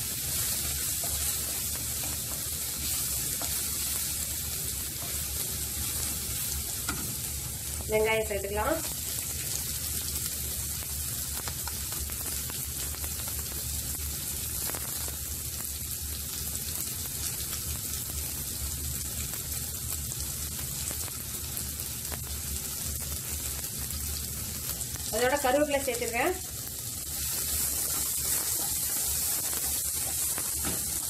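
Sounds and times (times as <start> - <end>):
onion sizzling in oil: 0.0 - 31.0.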